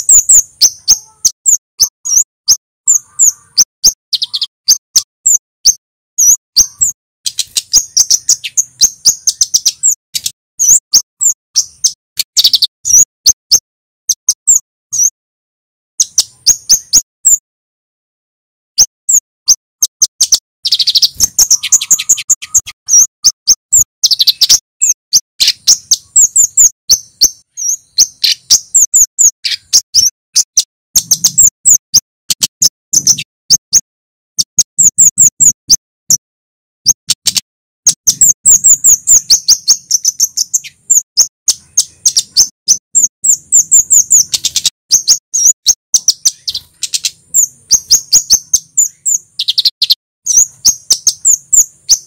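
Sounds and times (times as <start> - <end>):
bird singing sharp chirps: 0.0 - 15.2, 16.0 - 17.4, 18.8 - 36.2, 36.9 - 52.0.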